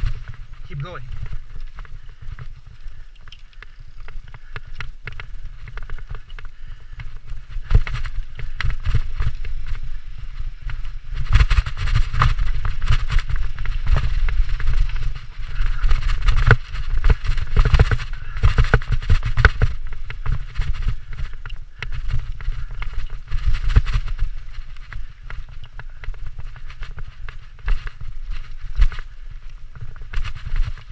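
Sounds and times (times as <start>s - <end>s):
bike rattling over bumps: 0.0s - 30.9s
tyres crunching over dirt: 0.0s - 30.9s
wind buffeting microphone: 0.0s - 30.9s.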